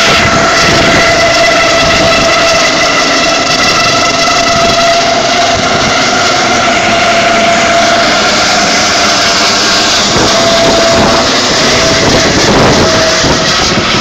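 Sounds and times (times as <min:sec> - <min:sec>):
helicopter flying low overhead: 0:00.0 - 0:14.0
high turbine whine: 0:00.0 - 0:14.0.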